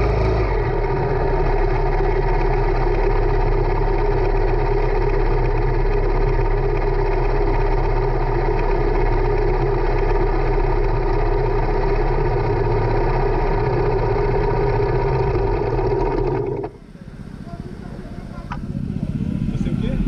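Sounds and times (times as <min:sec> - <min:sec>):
kart engine idling: 0:00.0 - 0:20.0.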